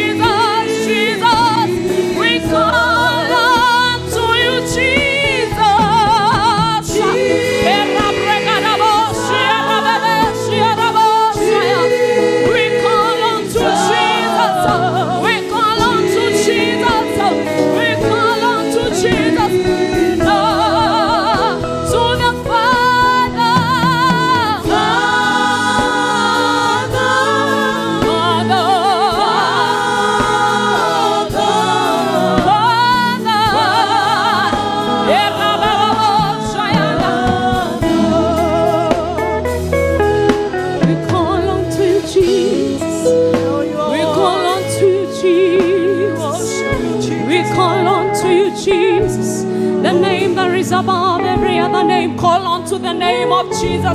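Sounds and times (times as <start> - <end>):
musical accompaniment: 0.0 - 53.9
voices singing: 0.0 - 53.9.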